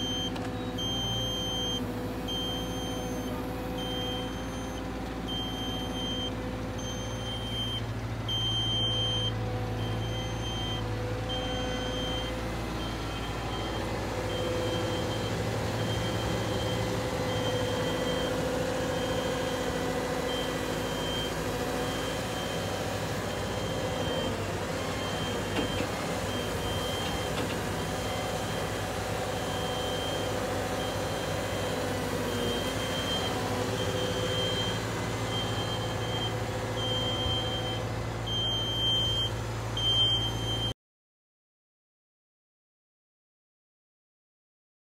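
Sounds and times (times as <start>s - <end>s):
excavator diesel engine and hydraulics: 0.0s - 40.8s.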